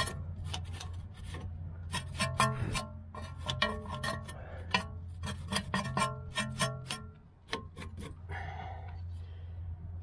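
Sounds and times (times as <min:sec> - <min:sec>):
wire brush scrubbing metal threads: 0:00.0 - 0:08.2.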